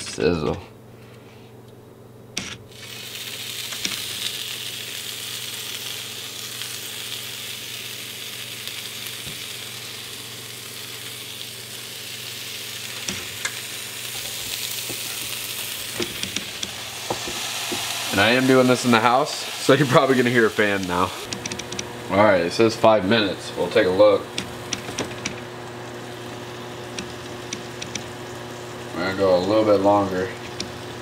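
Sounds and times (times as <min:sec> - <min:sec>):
meat sizzling on electric grill: 0:02.7 - 0:31.0.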